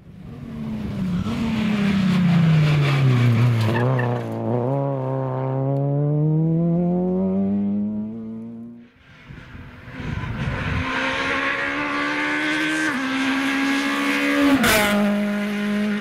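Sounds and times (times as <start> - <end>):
rally car engine revving: 0.5 - 16.0.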